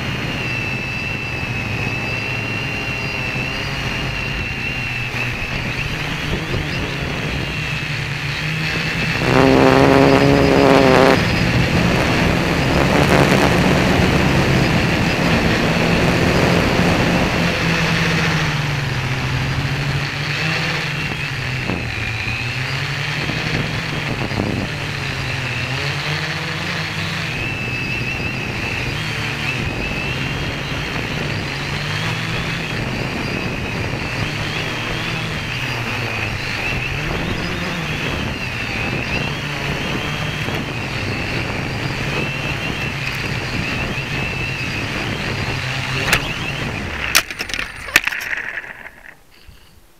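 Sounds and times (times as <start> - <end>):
model aircraft propeller buzzing: 0.0 - 49.8.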